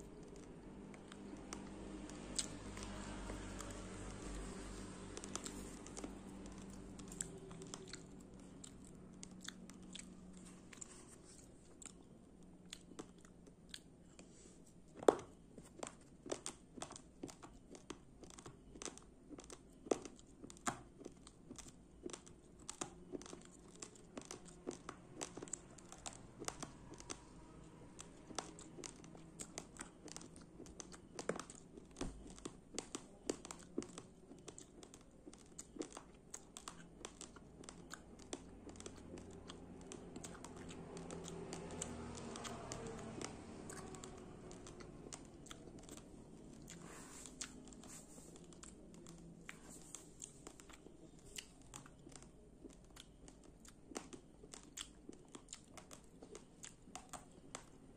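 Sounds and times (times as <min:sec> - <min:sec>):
rice grains crunching when chewed: 0:00.0 - 0:57.7.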